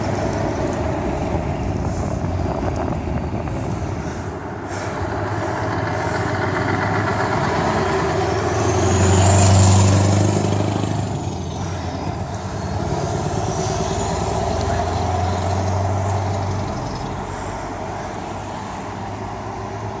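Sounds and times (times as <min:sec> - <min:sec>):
truck engine deep rumble: 0:00.0 - 0:20.0.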